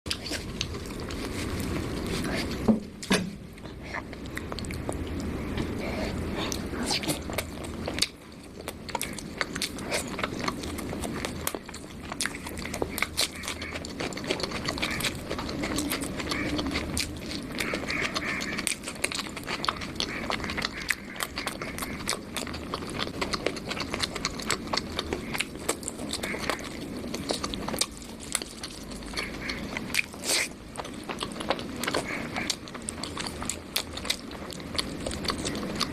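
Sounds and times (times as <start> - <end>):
person chewing food: 0.1 - 35.9.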